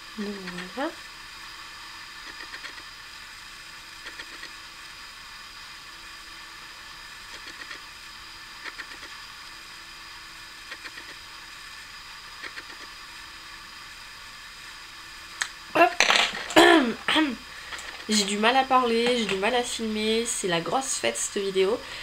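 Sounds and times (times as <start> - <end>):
faint hum: 0.0 - 22.0
recording hiss: 0.0 - 22.0.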